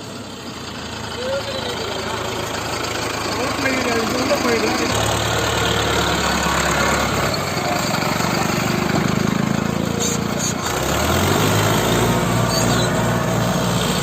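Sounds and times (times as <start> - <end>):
tractor diesel engines straining: 0.0 - 14.0.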